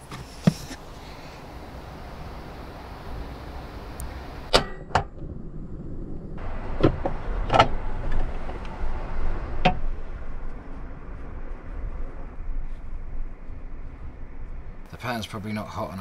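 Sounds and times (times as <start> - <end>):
steady outdoor hum: 0.0 - 16.0.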